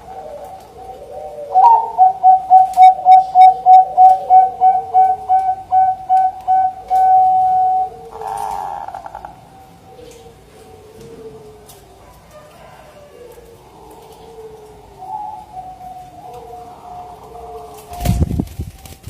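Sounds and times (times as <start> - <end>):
faint wavering coo: 0.0 - 18.3
dove cooing in clipped notes: 0.0 - 19.0.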